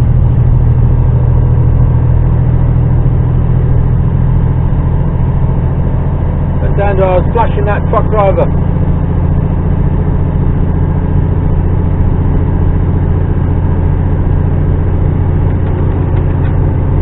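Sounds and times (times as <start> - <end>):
diesel engine labouring: 0.0 - 17.0.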